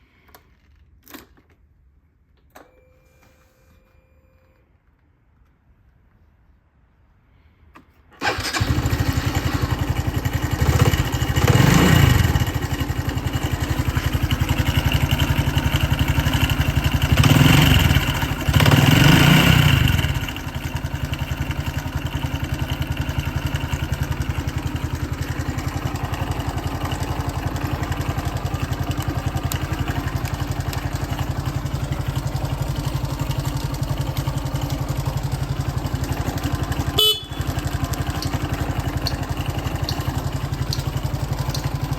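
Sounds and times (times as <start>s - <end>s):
motorcycle engine starting and revving: 8.1s - 41.9s.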